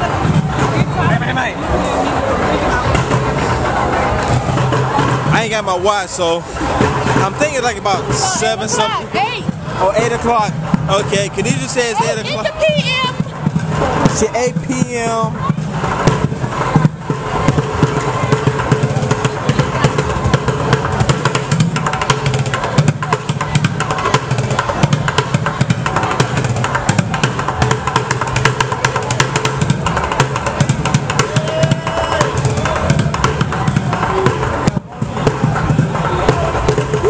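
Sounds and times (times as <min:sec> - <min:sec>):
crowd voices: 0:00.0 - 0:37.0
loud music with fast drumming: 0:02.7 - 0:37.0.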